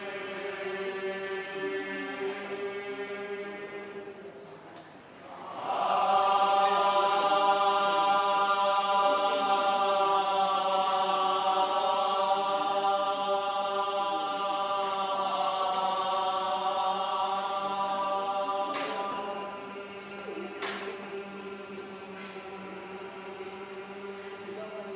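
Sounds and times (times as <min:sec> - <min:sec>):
monks chanting in unison: 0:00.0 - 0:04.6, 0:05.2 - 0:24.9.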